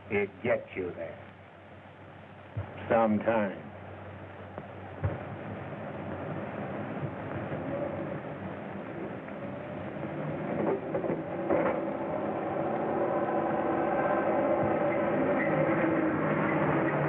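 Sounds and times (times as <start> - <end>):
steam train running: 2.7 - 17.0.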